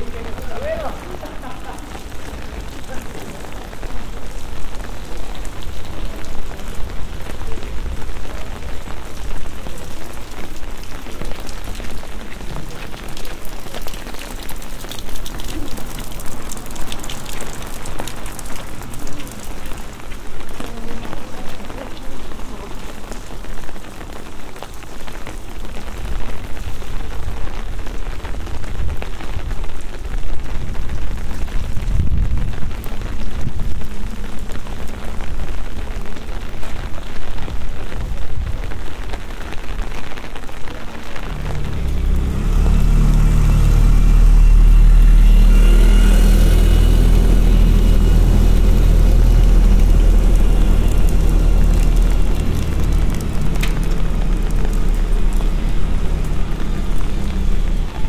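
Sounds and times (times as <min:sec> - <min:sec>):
rain on wet paving: 0:00.0 - 0:58.0.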